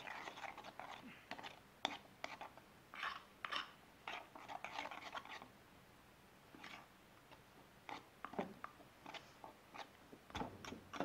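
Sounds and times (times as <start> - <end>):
spoon scraping batter in bowl: 0.0 - 5.5, 6.5 - 11.0.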